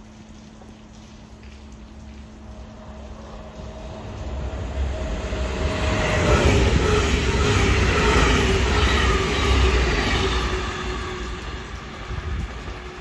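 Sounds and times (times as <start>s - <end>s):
train rumbling past: 2.3s - 13.0s.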